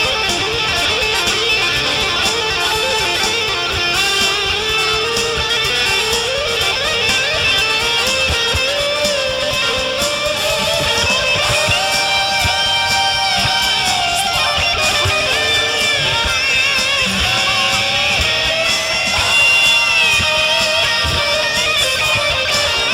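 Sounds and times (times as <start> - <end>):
guitar playing: 0.0 - 22.9
lead melody bending in pitch: 0.0 - 22.9.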